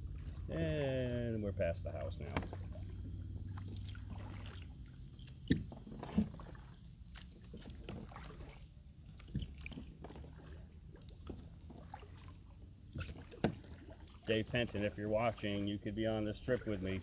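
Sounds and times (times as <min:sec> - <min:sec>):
paddle splashing through water: 0:00.0 - 0:17.0.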